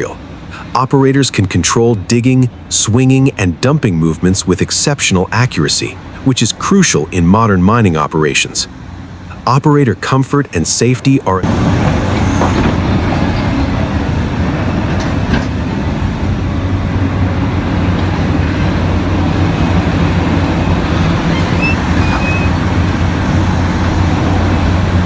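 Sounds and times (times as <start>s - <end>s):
heavy diesel engines droning: 0.0s - 25.0s.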